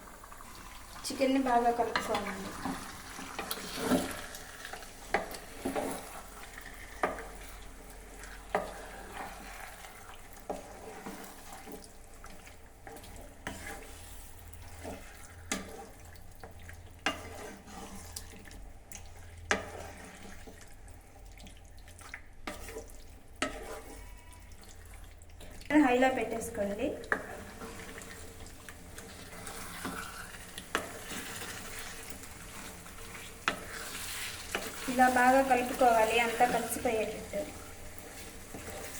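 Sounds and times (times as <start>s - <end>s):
low wet sizzle: 0.0s - 38.9s
spoon scraping pan: 1.3s - 20.8s, 22.4s - 38.9s.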